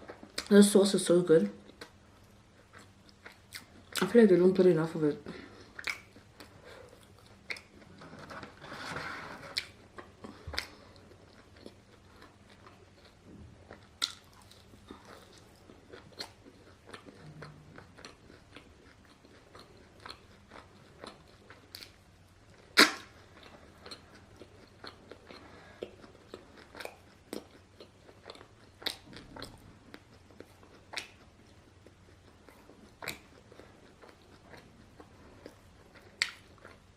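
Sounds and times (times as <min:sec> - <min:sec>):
chewing crunchy food: 0:01.6 - 0:04.6, 0:05.2 - 0:08.6, 0:09.5 - 0:36.9.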